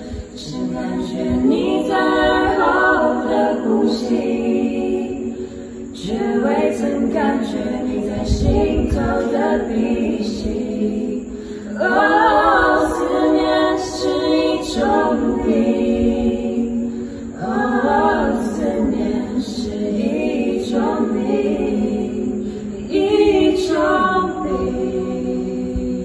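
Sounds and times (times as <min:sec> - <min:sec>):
group singing a cappella: 0:00.0 - 0:26.0.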